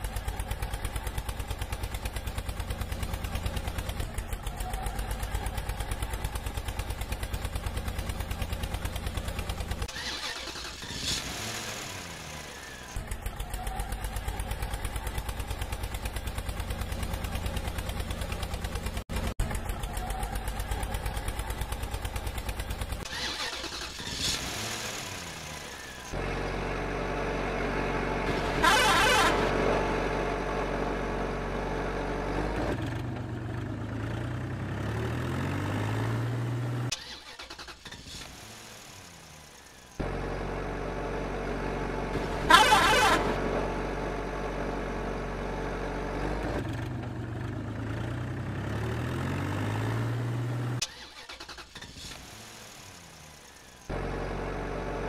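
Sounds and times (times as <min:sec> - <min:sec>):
vehicle engine starting and running: 0:00.0 - 0:55.0.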